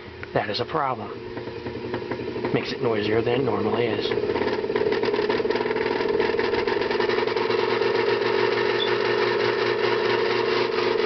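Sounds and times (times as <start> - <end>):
ceiling fan motor hum: 0.0 - 11.0
fan clunking: 0.0 - 11.0.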